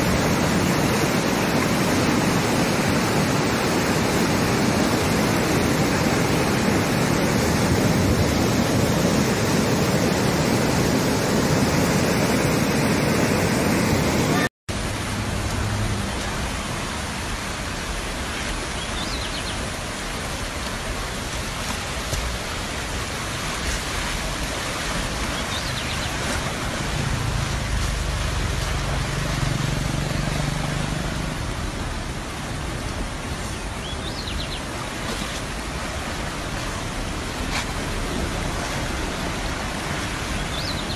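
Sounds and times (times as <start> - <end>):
floodwater rushing: 0.0 - 40.9.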